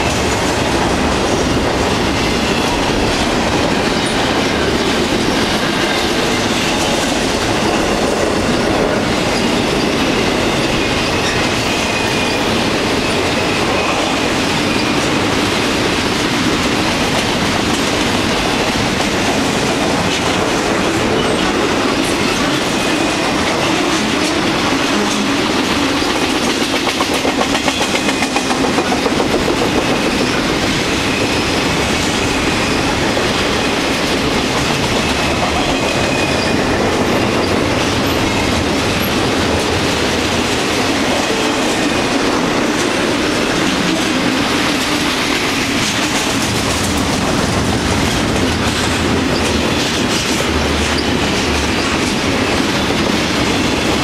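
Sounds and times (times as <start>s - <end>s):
clickety-clack of wheels on rails: 0.0s - 54.0s
train rumbling past: 0.0s - 54.0s.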